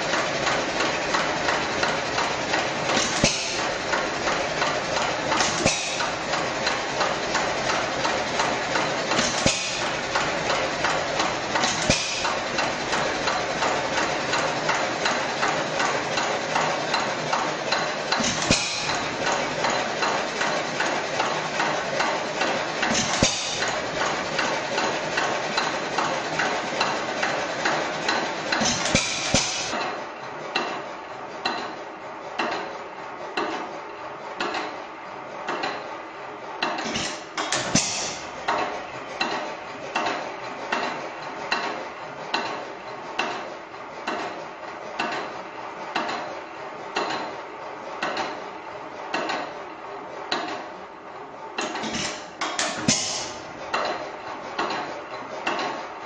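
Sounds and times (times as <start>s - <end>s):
stationary engine clattering: 0.0s - 56.0s.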